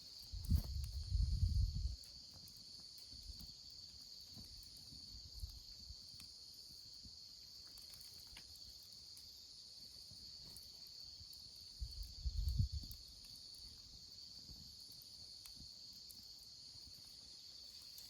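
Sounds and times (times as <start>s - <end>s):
campfire crackling: 0.0s - 18.0s
crickets trilling: 0.0s - 18.0s.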